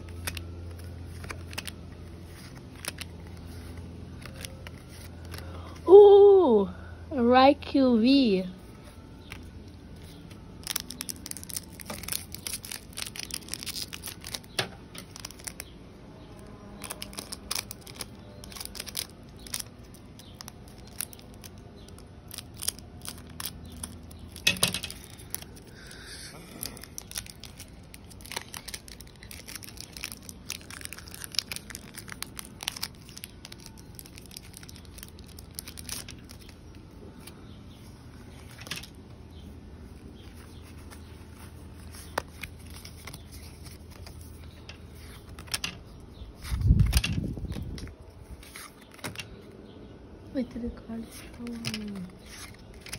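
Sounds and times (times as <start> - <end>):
foil wrapper crinkling and tearing: 0.0 - 5.7, 9.0 - 49.4, 51.3 - 52.9
cards rustling: 0.0 - 5.8, 8.6 - 49.6, 51.0 - 52.9.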